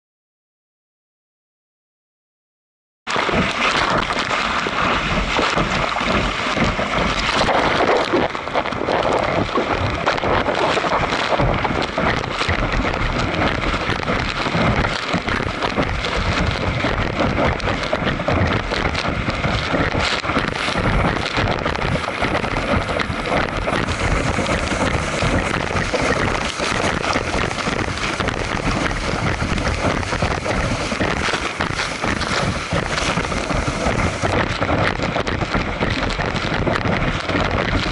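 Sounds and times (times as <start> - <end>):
water rushing and splashing: 3.1 - 37.9
wind buffeting microphone: 3.1 - 37.9.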